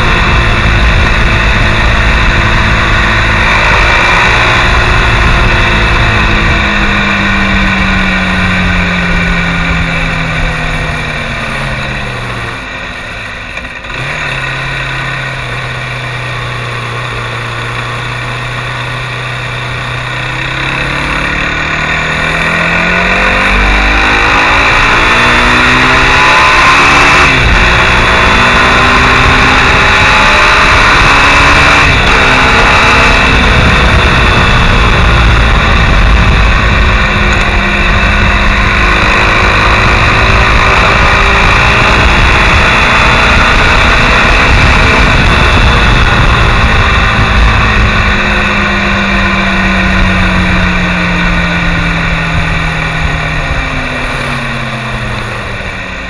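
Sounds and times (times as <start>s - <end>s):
wind rush: 0.0s - 12.7s, 19.9s - 56.0s
motorcycle engine revving: 0.0s - 56.0s.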